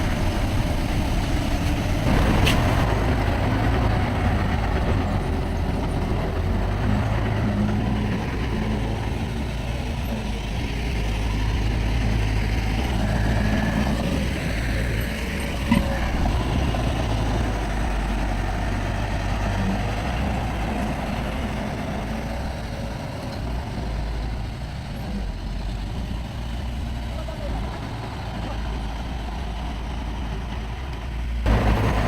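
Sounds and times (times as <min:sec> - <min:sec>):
diesel machinery rumbling: 0:00.0 - 0:32.0.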